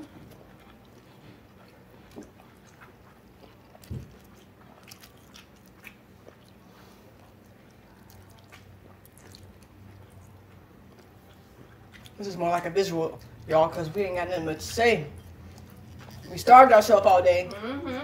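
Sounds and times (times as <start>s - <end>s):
biting and chewing: 0.0s - 17.6s.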